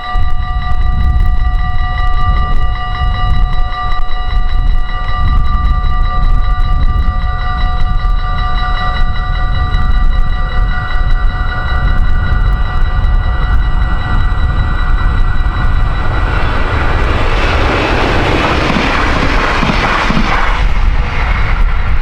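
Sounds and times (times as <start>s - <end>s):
train whining: 0.0s - 22.0s
wind buffeting microphone: 0.0s - 22.0s.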